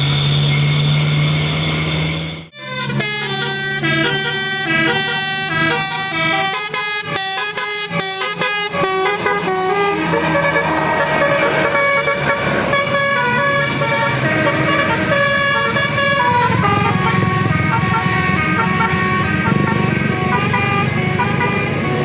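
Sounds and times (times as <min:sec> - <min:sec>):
bus engine rumble: 0:00.0 - 0:22.0
multi-tone bus air horn tune: 0:02.2 - 0:22.0.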